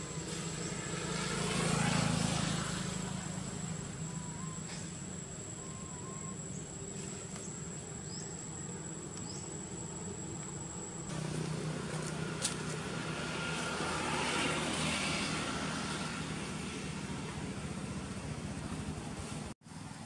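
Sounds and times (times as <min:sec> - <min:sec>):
high insect whine: 0:00.0 - 0:19.1
low rumble of distant traffic: 0:00.0 - 0:20.0.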